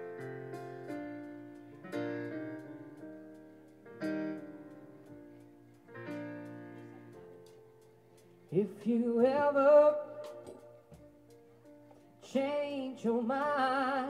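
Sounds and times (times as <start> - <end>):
electric keyboard chords: 0.0 - 14.0.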